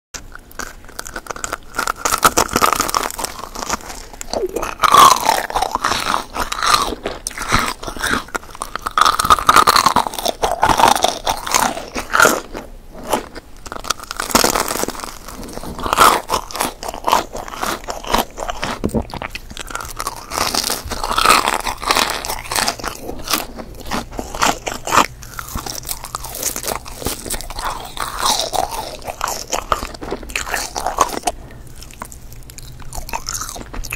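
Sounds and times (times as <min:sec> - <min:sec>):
biting and chewing candy: 0:00.2 - 0:33.9.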